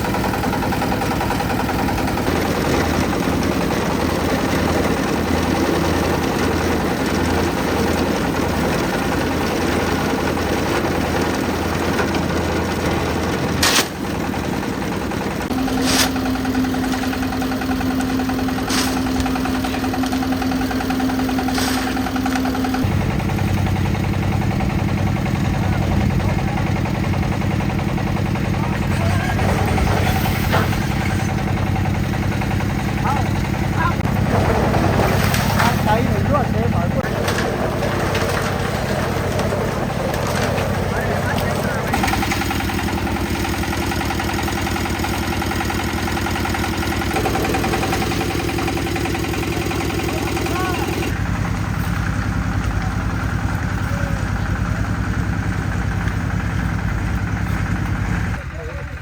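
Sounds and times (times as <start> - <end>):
concrete mixer engine droning: 0.0 - 59.0.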